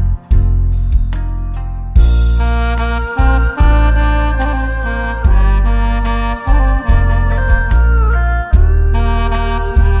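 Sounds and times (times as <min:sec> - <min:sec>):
bass: 0:00.0 - 0:10.0
keyboard or guitar chords: 0:01.5 - 0:10.0
saxophone melody: 0:02.0 - 0:10.0
steady drum beat: 0:02.0 - 0:10.0.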